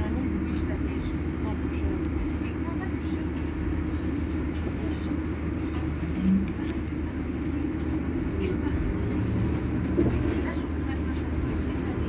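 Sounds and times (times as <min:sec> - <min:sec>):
electric bus humming: 0:00.0 - 0:12.0.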